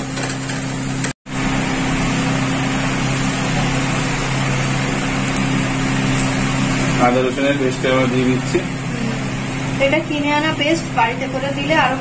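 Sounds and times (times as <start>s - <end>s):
electric fan motor humming: 0.0s - 12.0s.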